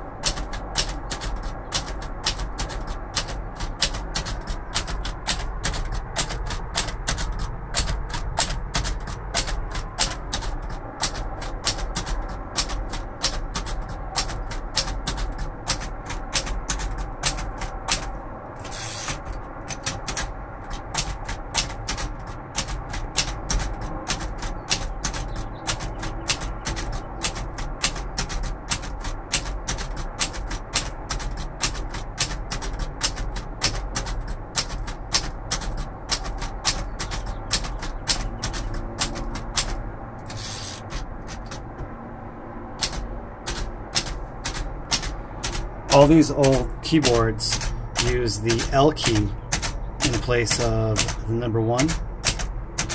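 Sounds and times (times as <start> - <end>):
typewriter keys clacking: 0.1 - 41.6, 42.8 - 52.9.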